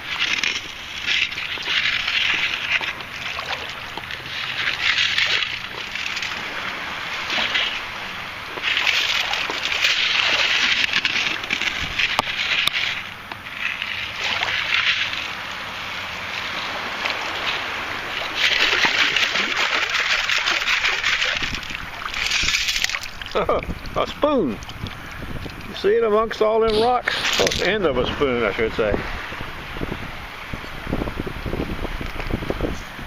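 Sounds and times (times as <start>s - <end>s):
water sloshing: 0.0s - 30.3s.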